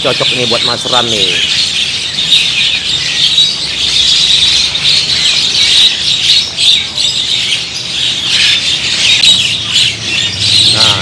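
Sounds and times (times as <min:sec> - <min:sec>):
songbirds chirping and squawking: 0:00.0 - 0:11.0.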